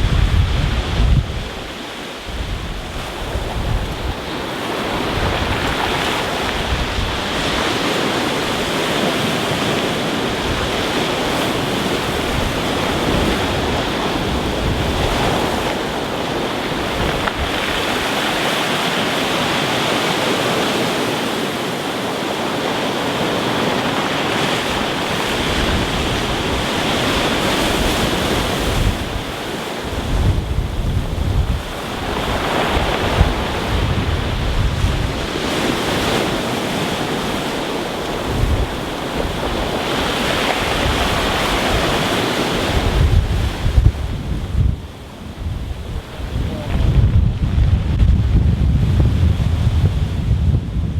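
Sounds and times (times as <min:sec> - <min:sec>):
wind buffeting microphone: 0:00.0 - 0:21.3, 0:21.9 - 0:50.9
surf on a pebble beach: 0:00.0 - 0:50.9.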